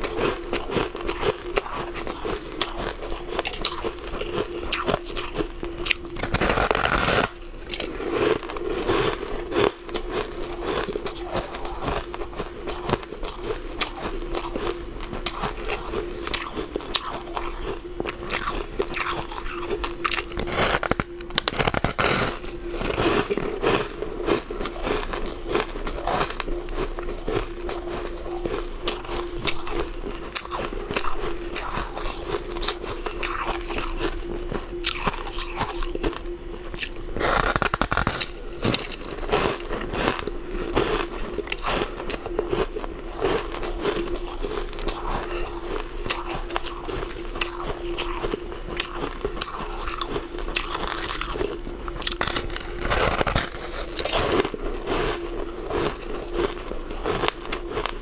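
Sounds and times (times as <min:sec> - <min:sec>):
crunching frozen ice: 0:00.0 - 0:58.0
faint steady hum: 0:00.0 - 0:58.0.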